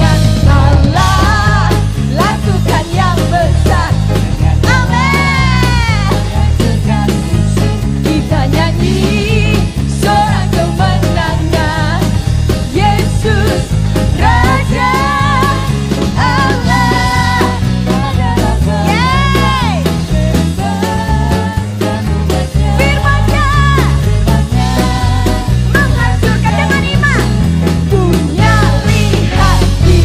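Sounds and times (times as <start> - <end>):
worship band playing: 0.0 - 30.0.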